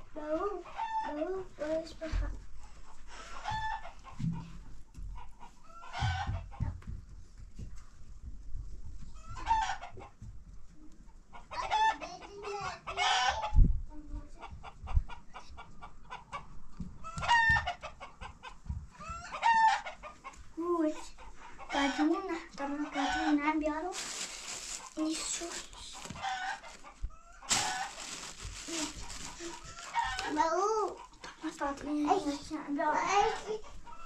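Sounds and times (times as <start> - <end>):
chickens clucking: 0.2 - 7.0, 9.1 - 13.6, 14.2 - 34.0.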